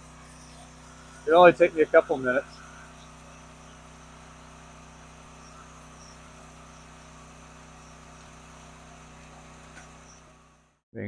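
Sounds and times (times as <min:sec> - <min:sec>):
faint high chirps: 0:00.1 - 0:10.4.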